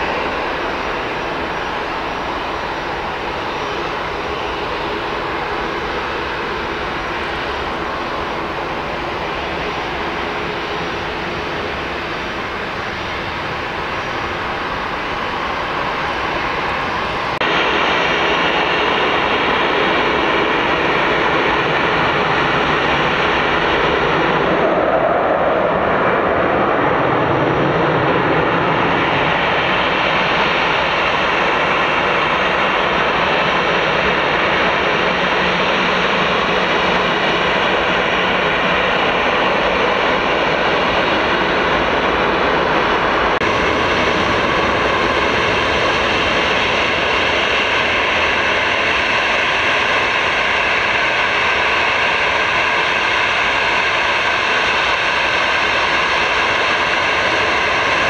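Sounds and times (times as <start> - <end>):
faint jet climbing away: 0.0 - 58.0
jet engines at low power: 0.0 - 58.0.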